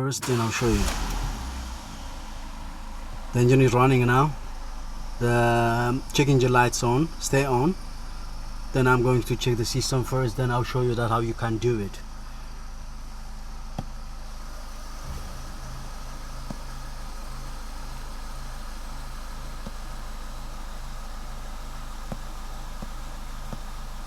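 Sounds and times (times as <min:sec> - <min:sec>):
car engine idling: 0:00.0 - 0:24.0
low regular pulsing: 0:00.2 - 0:24.0.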